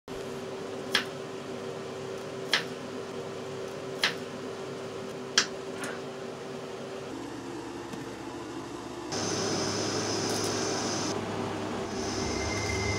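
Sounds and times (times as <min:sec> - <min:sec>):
steady hum: 0:00.1 - 0:12.9.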